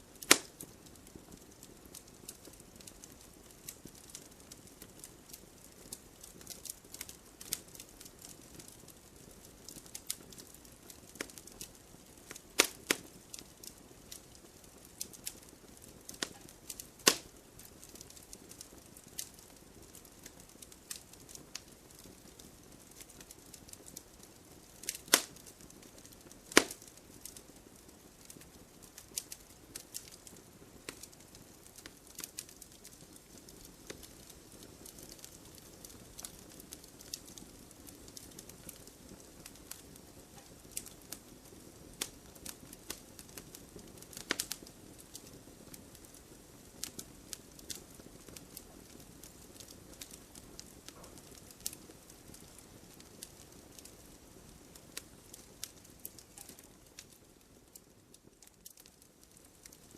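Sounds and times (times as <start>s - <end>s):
wood fire crackling: 0.0s - 59.9s
burning wood popping: 0.1s - 59.9s.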